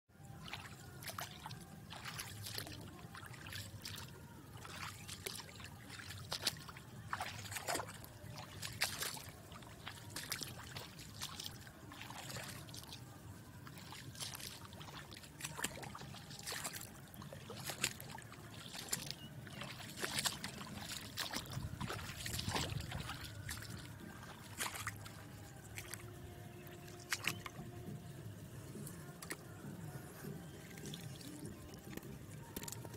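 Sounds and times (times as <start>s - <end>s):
floodwater trickling and sloshing: 0.1s - 32.9s
small water splashes: 0.2s - 29.6s, 30.2s - 32.9s.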